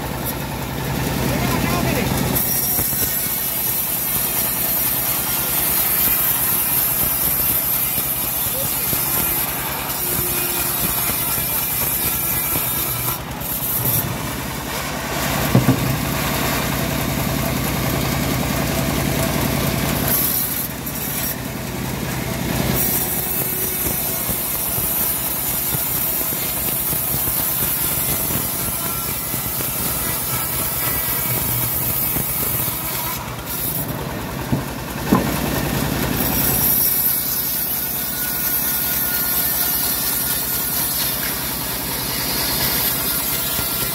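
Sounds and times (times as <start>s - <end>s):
band saw blade cutting wood: 0.0s - 43.9s
machine drone: 0.0s - 43.9s.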